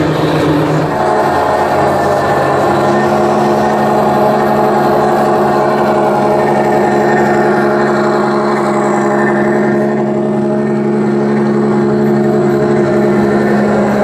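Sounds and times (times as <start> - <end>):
electronic engine drone: 0.0 - 14.0.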